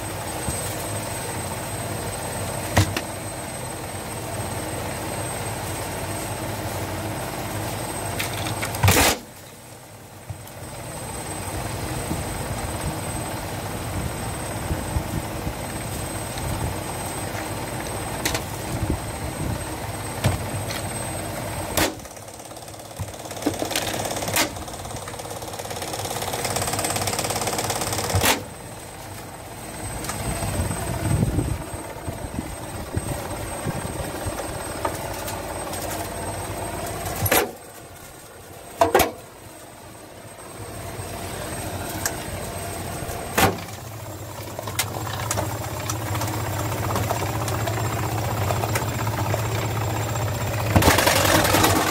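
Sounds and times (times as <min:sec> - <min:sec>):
washing machine drum whirring: 0:00.0 - 0:51.9.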